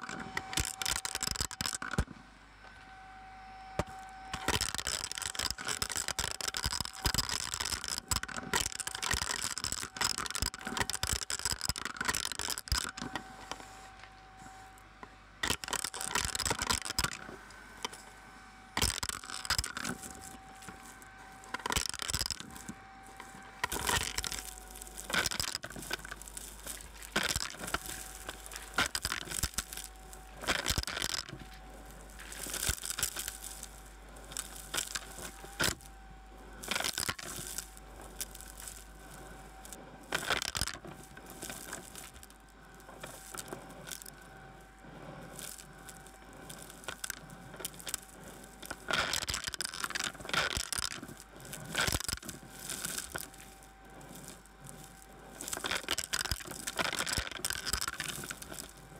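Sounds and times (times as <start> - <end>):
debris rattling up vacuum hose: 0.0 - 2.1, 3.8 - 13.8, 15.4 - 18.0, 18.8 - 58.9
vacuum cleaner motor whine: 0.0 - 58.9.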